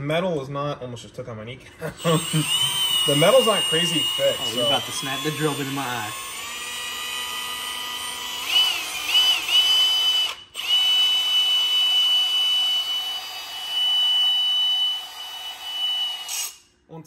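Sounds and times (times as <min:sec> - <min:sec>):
cordless drill motor whine: 0:02.0 - 0:16.6.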